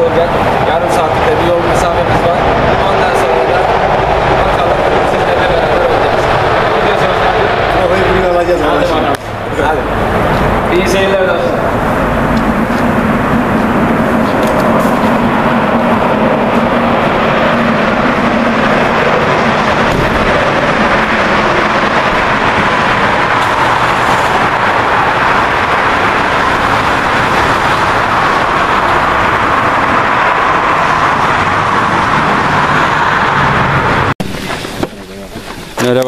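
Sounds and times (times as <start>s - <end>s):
road and wind noise: 0.0s - 36.0s.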